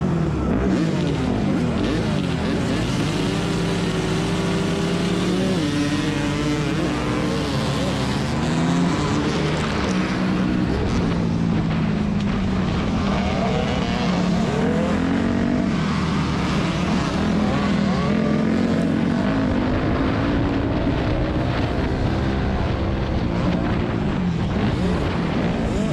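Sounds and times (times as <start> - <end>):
motocross bike engines revving: 0.0 - 25.9.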